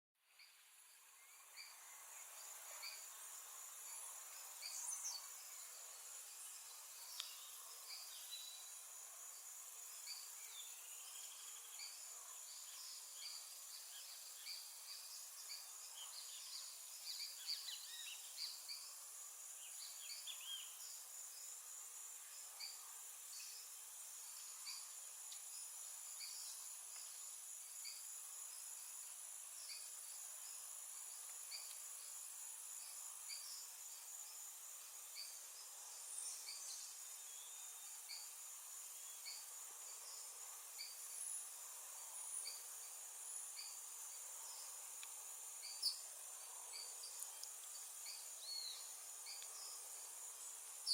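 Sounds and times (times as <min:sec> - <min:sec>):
high-pitched insect trill: 0:00.4 - 0:50.9.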